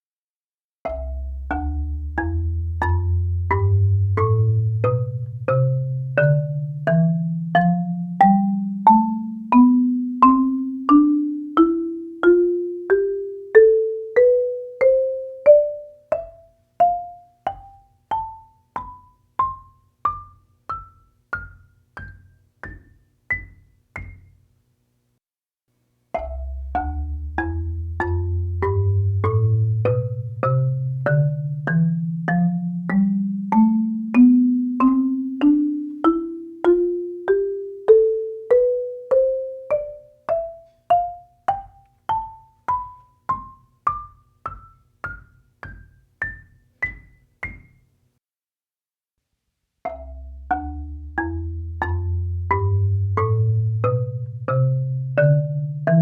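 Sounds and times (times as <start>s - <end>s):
marimba playing a scale: 0.8s - 24.4s, 26.2s - 47.8s, 49.9s - 56.0s.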